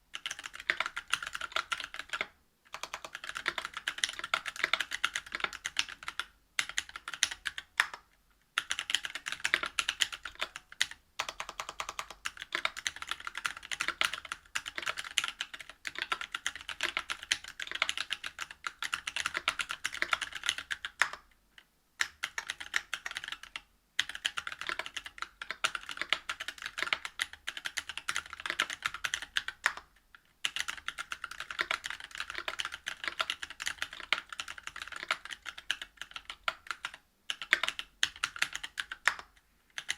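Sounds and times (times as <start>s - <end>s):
mechanical keyboard typing: 0.1s - 8.0s, 8.6s - 21.2s, 22.0s - 39.9s.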